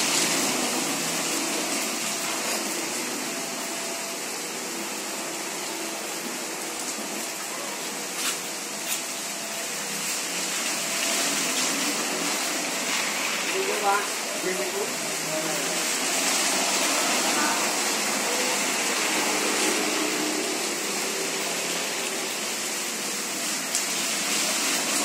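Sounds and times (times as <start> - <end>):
heavy rain on pavement: 0.0 - 25.0.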